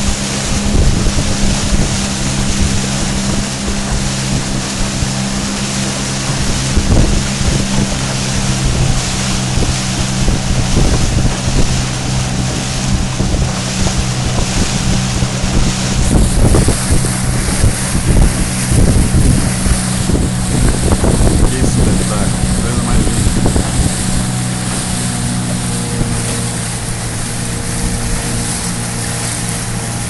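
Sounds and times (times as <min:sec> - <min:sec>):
motorboat engine droning: 0:00.0 - 0:30.0
water noise from boat: 0:00.0 - 0:30.0
wind buffeting microphone: 0:00.0 - 0:30.0.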